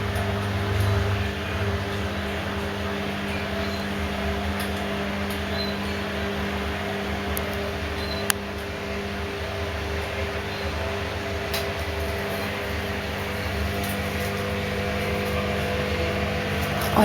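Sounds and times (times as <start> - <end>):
machine hum with low rumble: 0.0 - 17.0.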